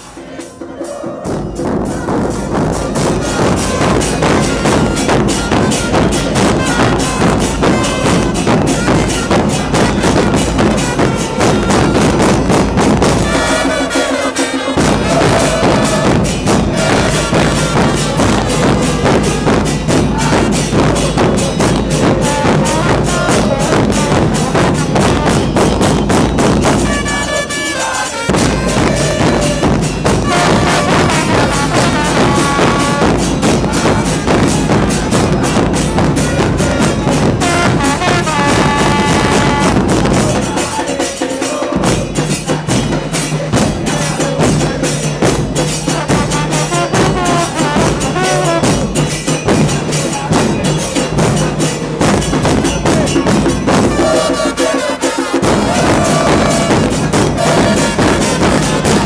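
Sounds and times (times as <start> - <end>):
bass drums and percussion: 0.0 - 59.0
fans singing along: 0.0 - 59.0.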